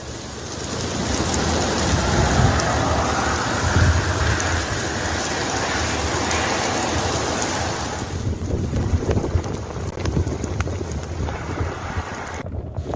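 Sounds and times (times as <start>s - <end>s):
heavy rain pouring: 0.0s - 12.9s
low rumble: 0.7s - 12.9s.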